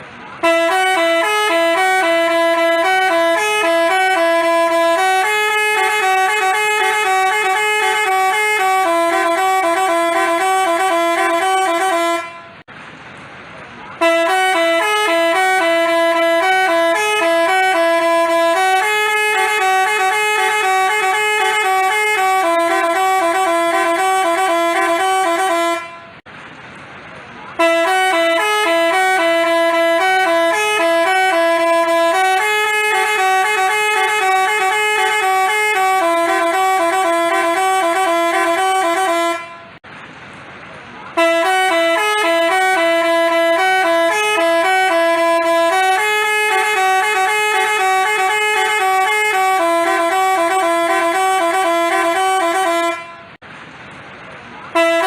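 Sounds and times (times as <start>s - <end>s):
bus horn playing a tune: 0.0s - 12.7s, 13.9s - 26.3s, 27.5s - 39.8s, 41.1s - 53.4s, 54.7s - 55.0s.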